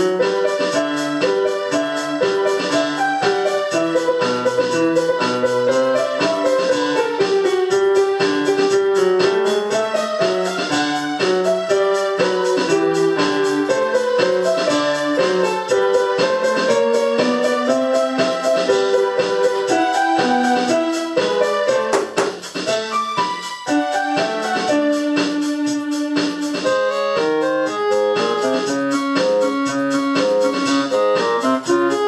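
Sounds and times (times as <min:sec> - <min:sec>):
electric piano music: 0:00.0 - 0:32.0.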